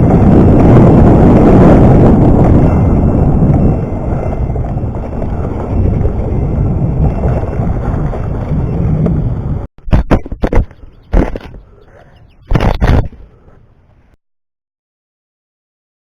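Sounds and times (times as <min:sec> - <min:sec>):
wind buffeting microphone: 0:00.0 - 0:13.8
rough rumble of riding: 0:00.0 - 0:14.2.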